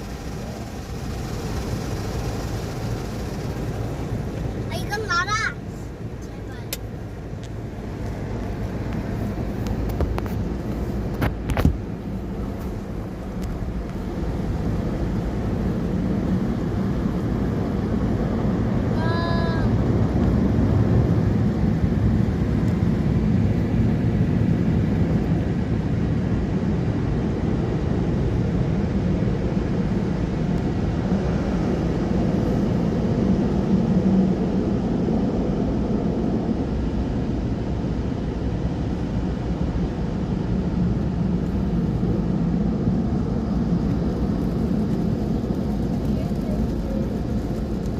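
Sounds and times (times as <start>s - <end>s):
automatic car wash rumbling: 0.0s - 47.9s.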